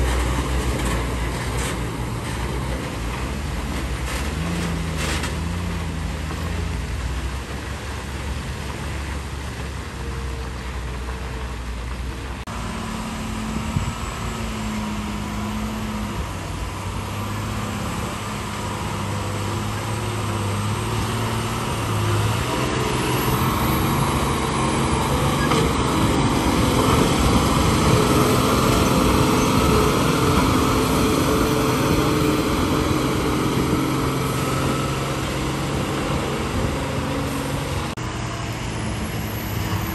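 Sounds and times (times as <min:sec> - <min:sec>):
diesel trucks under load: 0:00.0 - 0:39.9.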